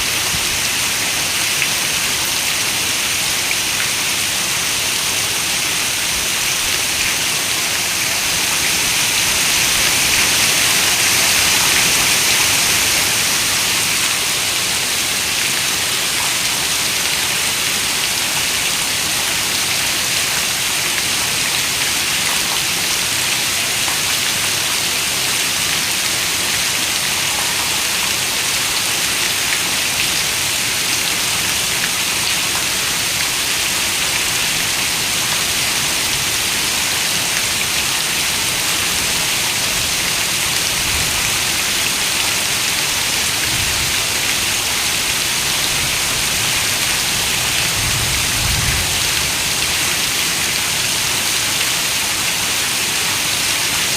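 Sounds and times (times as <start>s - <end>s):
heavy rain on a window: 0.0s - 53.9s.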